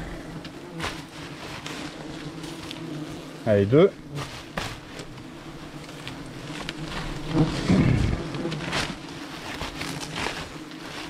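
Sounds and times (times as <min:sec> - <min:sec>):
rustling: 0:00.0 - 0:03.4, 0:04.0 - 0:11.0
papery nest crackling and scraping: 0:00.0 - 0:11.0
wasps buzzing: 0:00.0 - 0:11.0.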